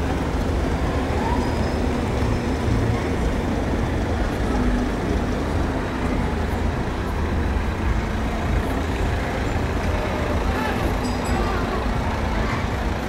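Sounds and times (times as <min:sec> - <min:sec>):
car engines: 0:00.0 - 0:13.0
tyres on the street: 0:00.0 - 0:13.0.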